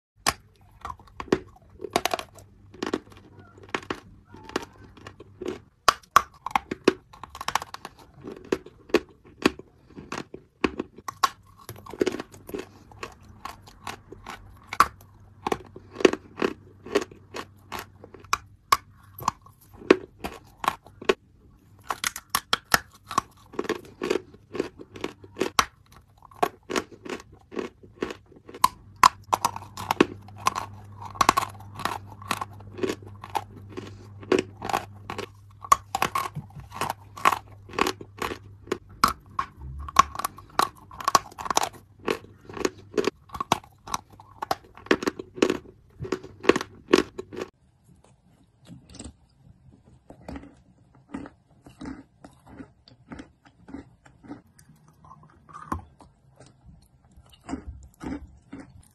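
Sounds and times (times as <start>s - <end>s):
wet pasty chewing: 0.2s - 58.9s.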